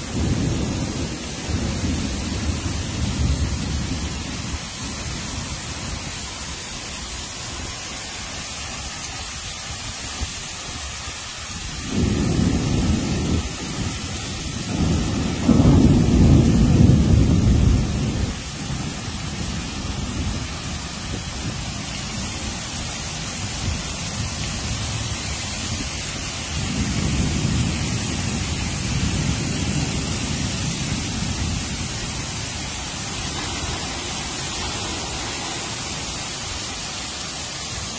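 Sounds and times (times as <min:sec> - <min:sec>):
thunder rumbling: 0:00.0 - 0:07.8, 0:11.5 - 0:37.9
heavy rain hissing: 0:00.0 - 0:37.9.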